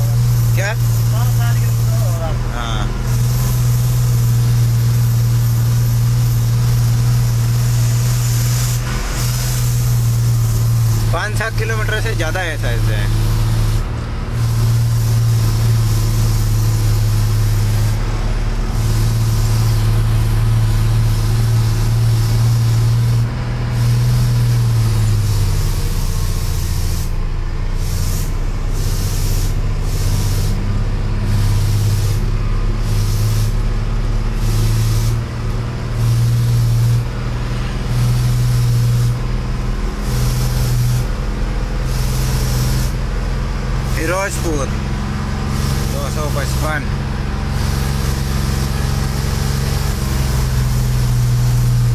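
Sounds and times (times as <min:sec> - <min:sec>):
road and wind hiss: 0:00.0 - 0:51.9
truck engine droning: 0:00.0 - 0:51.9.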